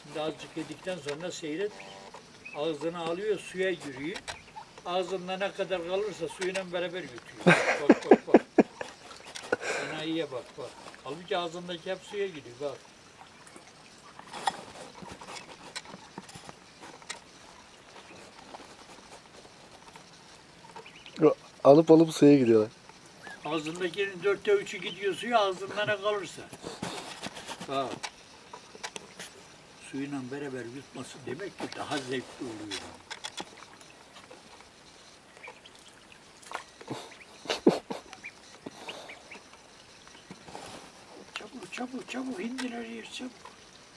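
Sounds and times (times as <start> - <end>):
ducks pecking and dabbling: 0.0 - 43.9.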